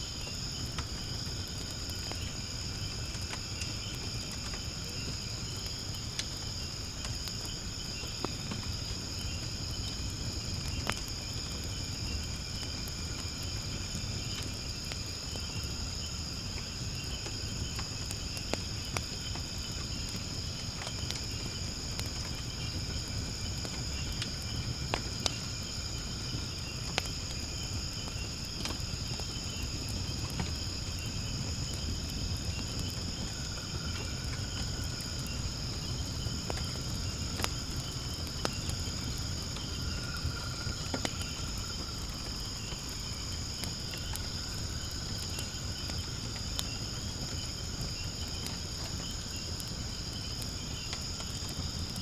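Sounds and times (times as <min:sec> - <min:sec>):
insect chorus: 0:00.0 - 0:52.0
wood fire crackling: 0:00.0 - 0:52.0.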